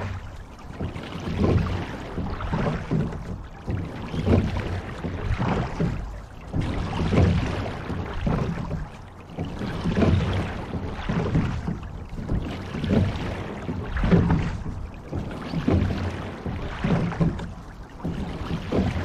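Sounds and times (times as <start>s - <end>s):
water splashing along rowing hull: 0.0s - 19.0s.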